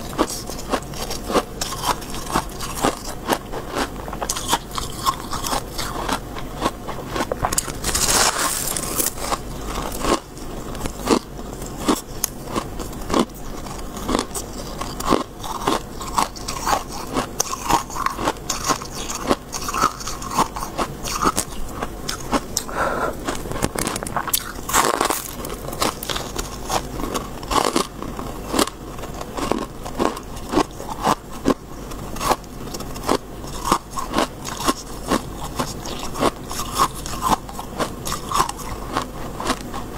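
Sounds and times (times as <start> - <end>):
chewing frost crunches: 0.0 - 39.9.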